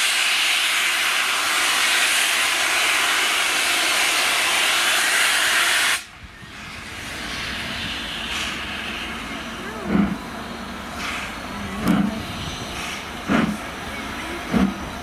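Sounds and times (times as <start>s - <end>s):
steam hissing from drain cocks: 0.0s - 13.6s
low locomotive engine working: 0.0s - 15.0s.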